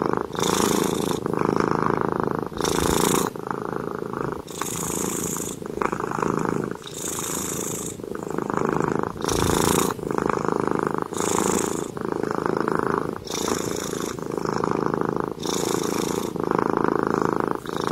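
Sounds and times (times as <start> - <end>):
cat purring: 0.0 - 17.9.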